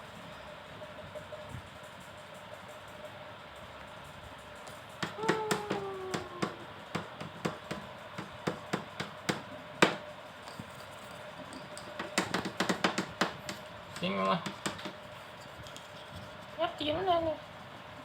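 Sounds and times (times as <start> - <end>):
steady faint hum: 0.0 - 18.0.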